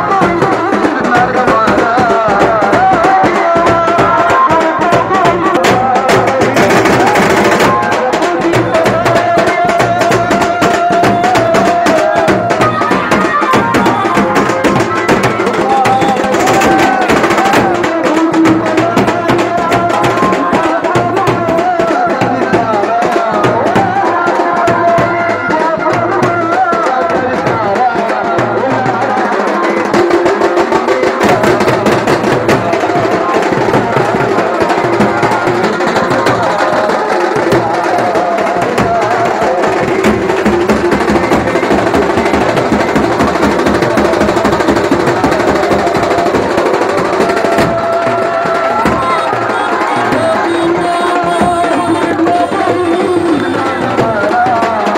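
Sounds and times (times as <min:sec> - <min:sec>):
loud fast drumming: 0:00.0 - 0:54.9.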